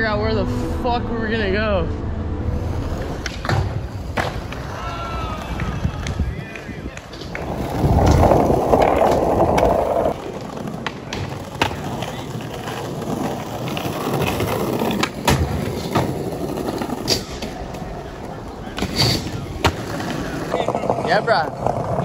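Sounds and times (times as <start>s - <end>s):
skateboard wheels rolling on paving: 2.6s - 22.0s
skateboard clacking on ground: 3.1s - 22.0s.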